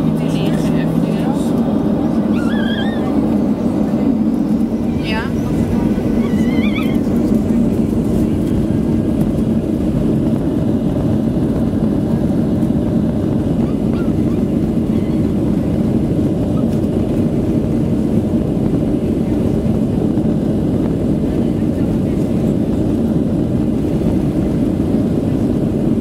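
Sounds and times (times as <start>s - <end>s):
jet engines in cabin: 0.0s - 26.0s.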